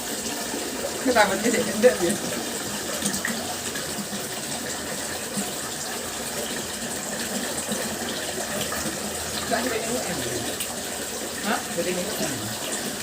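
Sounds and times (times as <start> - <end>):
water fountain splashing: 0.0 - 13.0.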